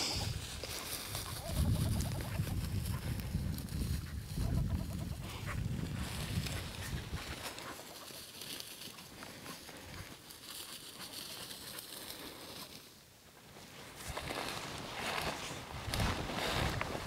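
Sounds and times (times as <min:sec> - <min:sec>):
footsteps through dry grass: 0:00.0 - 0:17.0
legs brushing through dry grass: 0:00.0 - 0:17.0.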